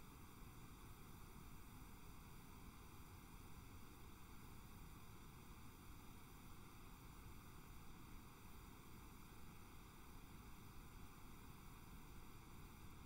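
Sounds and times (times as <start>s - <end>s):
faint recording hiss: 0.0s - 13.0s.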